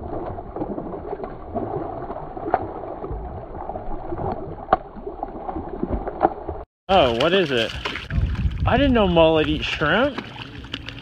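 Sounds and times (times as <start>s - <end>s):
fish thrashing and splashing: 0.0s - 11.0s.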